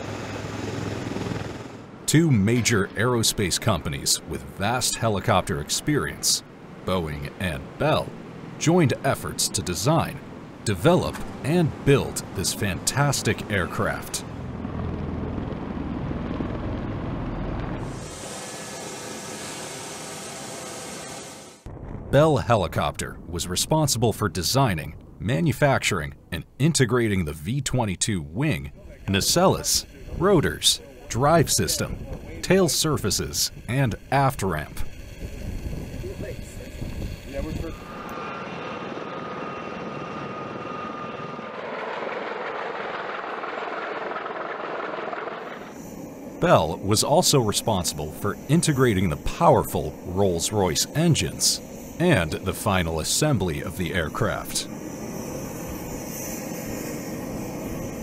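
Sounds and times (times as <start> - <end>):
aircraft engine rush: 0.0 - 21.7, 28.0 - 58.0
high-pitched turbine whine: 0.0 - 21.7, 28.2 - 58.0
low pulsing rotor rumble: 0.0 - 22.1, 28.0 - 58.0.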